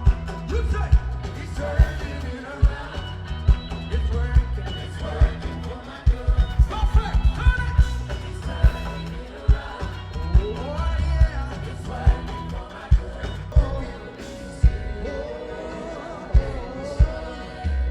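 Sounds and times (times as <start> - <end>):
bass guitar: 0.0 - 17.9
gospel band playing: 0.0 - 17.9
person singing: 0.0 - 17.9.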